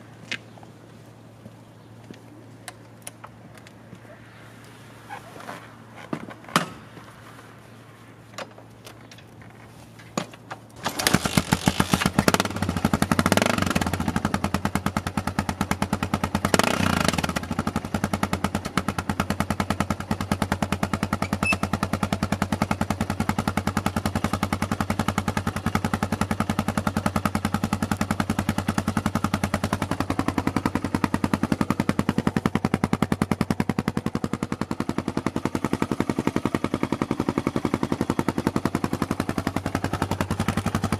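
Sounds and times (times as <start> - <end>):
motorcycle engine starting and idling: 0.0 - 40.9.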